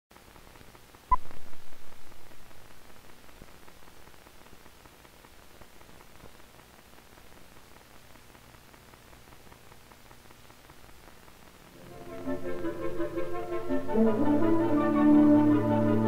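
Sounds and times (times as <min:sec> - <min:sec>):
faint crackles: 0:00.1 - 0:13.8
film soundtrack hiss: 0:00.1 - 0:16.0.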